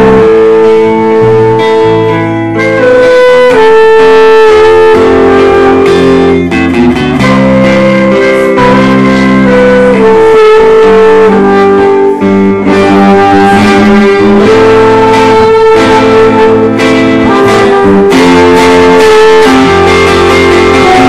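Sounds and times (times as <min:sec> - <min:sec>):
guitar melody with held chords: 0:00.0 - 0:21.0.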